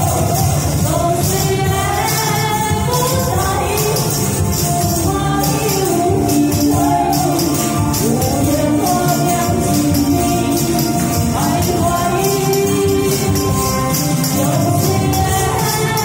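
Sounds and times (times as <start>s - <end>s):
backing track: 0.0s - 16.0s
tambourines jingling: 0.0s - 16.0s
woman singing into microphone: 0.0s - 16.0s.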